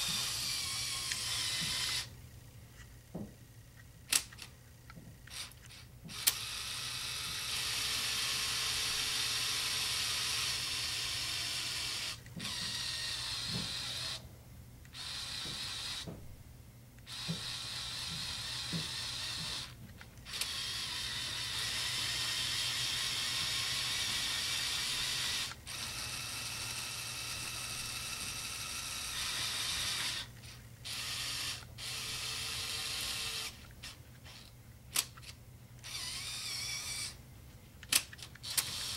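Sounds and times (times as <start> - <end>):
small electric motors whirring: 0.0 - 2.1, 5.2 - 14.2, 14.9 - 16.1, 17.0 - 37.2, 37.8 - 38.9.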